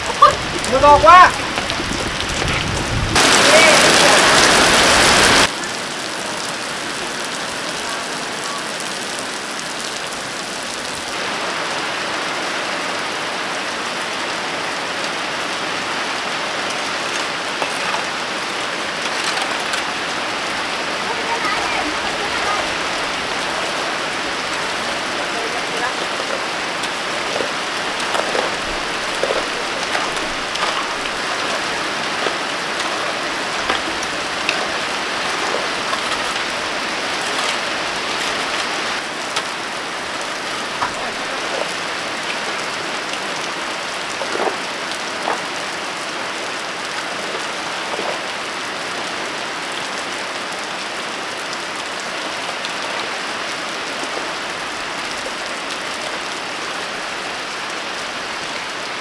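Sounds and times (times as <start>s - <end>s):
heavy rain falling: 0.0s - 59.0s
loud nearby raindrops: 0.0s - 59.0s.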